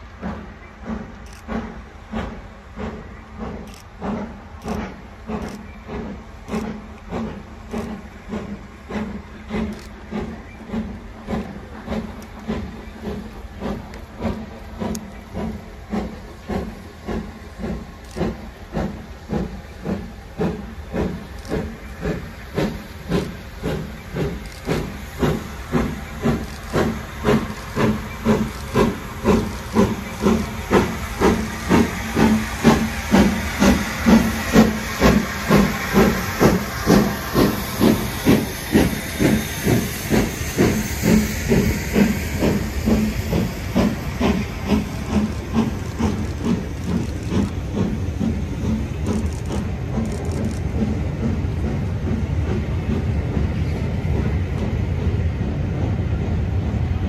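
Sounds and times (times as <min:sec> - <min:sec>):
steam hissing: 0:00.0 - 0:57.0
steam locomotive exhaust beats: 0:00.0 - 0:57.0.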